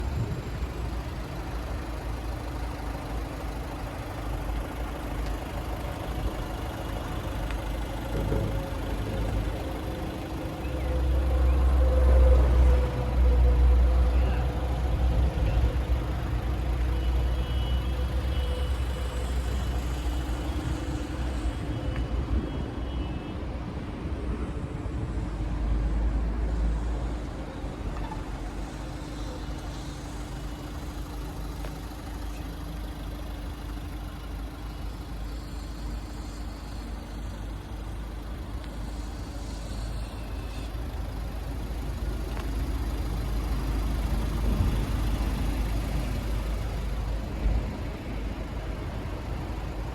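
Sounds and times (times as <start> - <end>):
vehicle engine idling: 0.0 - 23.8, 24.9 - 49.9.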